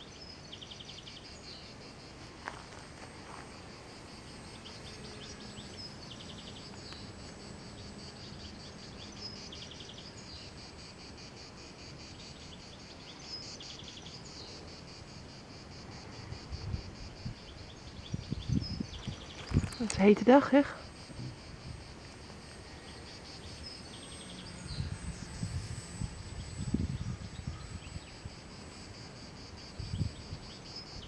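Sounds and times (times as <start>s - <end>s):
insects chorus: 0.0s - 31.0s
pulsed insect trills: 0.0s - 31.0s.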